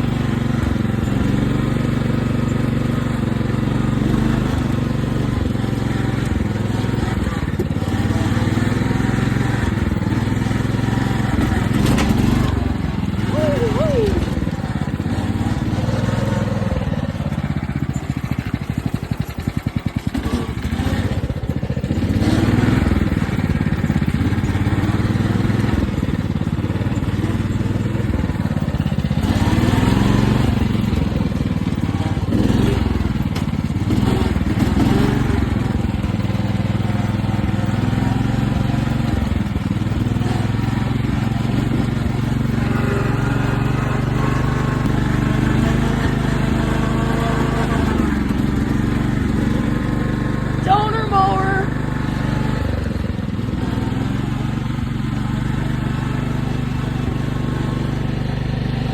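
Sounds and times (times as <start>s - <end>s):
riding lawn mower engine running: 0.0s - 58.9s.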